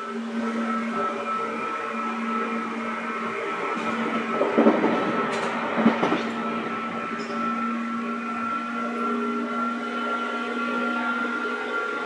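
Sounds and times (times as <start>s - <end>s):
electric train whine and hum: 0.0s - 12.0s.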